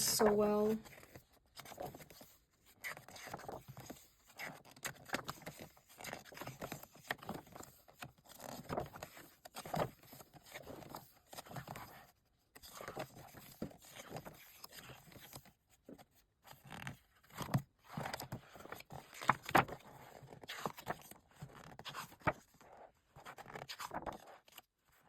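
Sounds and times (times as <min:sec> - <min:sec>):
book pages turning: 0:00.0 - 0:24.7.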